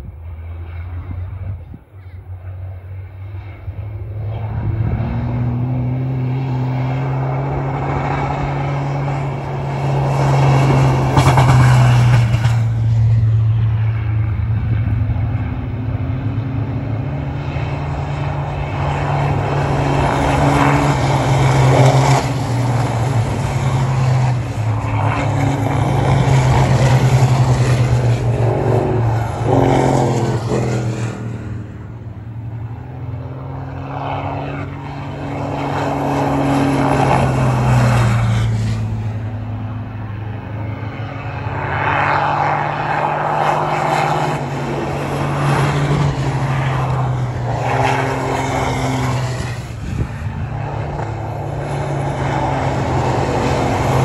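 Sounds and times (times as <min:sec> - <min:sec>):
diesel truck engines racing past: 0:00.0 - 0:54.0.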